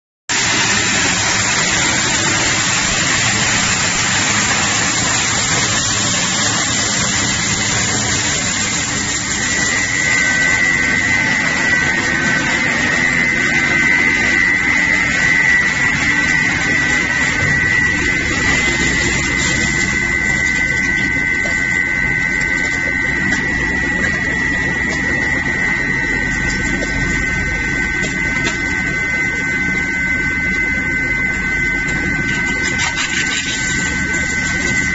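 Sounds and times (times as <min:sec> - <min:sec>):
high steady whine: 0:00.3 - 0:34.9
shredder motor running: 0:00.3 - 0:34.9.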